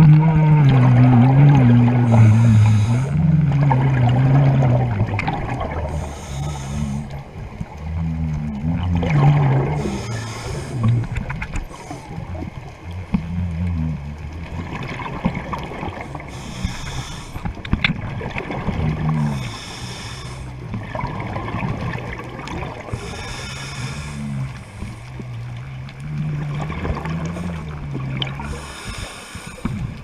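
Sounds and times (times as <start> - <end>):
exhaled bubbles hissing: 0.0 - 30.0
low humming tones: 0.0 - 30.0
steady rush of water: 0.0 - 30.0.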